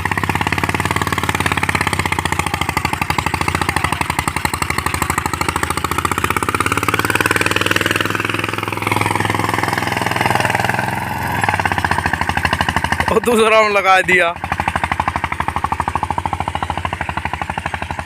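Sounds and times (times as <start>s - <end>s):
tractor diesel engine chugging: 0.0s - 18.0s.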